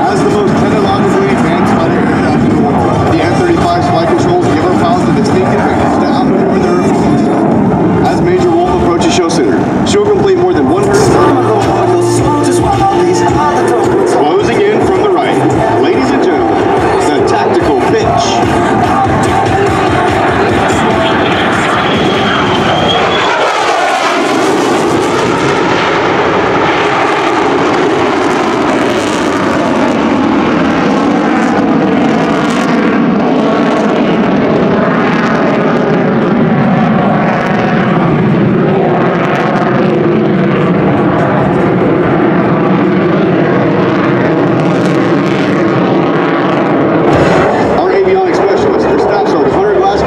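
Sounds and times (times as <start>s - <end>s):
jet engine roaring with afterburner: 0.0s - 50.0s.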